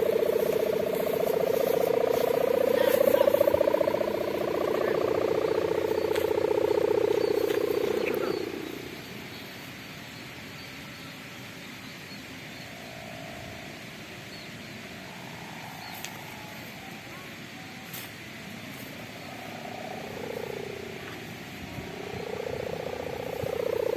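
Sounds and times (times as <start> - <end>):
kite hummer droning buzz: 0.0 - 23.9
weak hum: 0.0 - 23.9.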